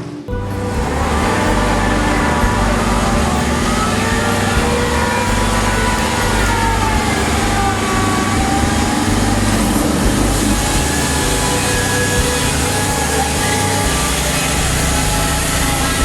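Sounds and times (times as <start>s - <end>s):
sawmill engine running: 0.0s - 16.0s.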